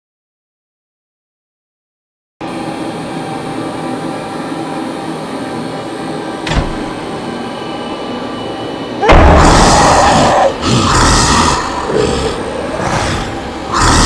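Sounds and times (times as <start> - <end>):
machine drone: 2.4 - 14.0.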